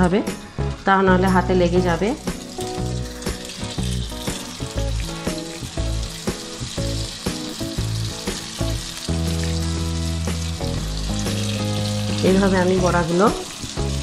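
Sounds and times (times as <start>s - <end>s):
dumplings sizzling in oil: 0.4s - 14.0s.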